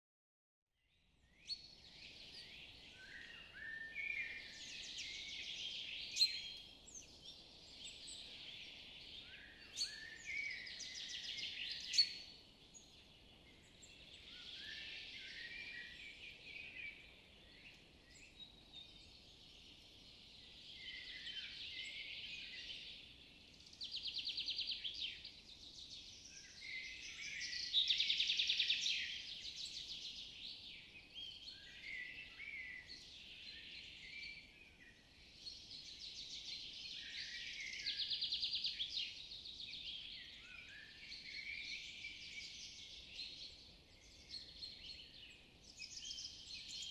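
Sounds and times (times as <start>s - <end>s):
birds chirping and singing: 1.5s - 46.9s.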